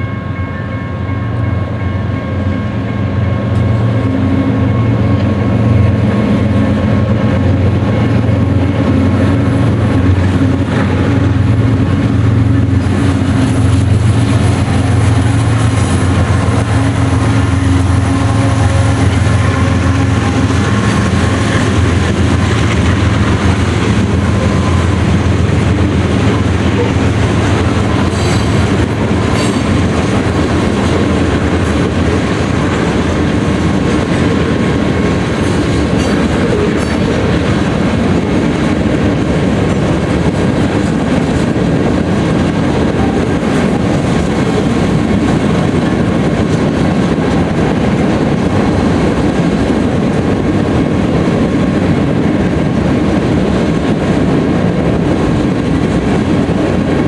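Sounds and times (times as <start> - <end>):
freight train rumbling: 0.0 - 57.0
wheels clattering over rail joints: 3.5 - 53.3.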